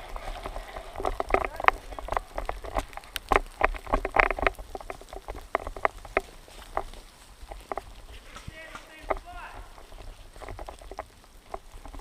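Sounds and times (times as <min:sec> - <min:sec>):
sharp clicks and knocks: 0:00.0 - 0:12.0.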